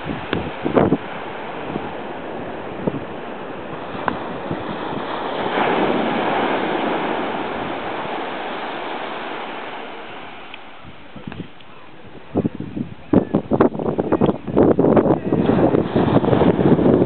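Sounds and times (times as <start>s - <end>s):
ocean surf washing on beach: 0.0s - 17.0s
wind on microphone: 0.0s - 17.0s.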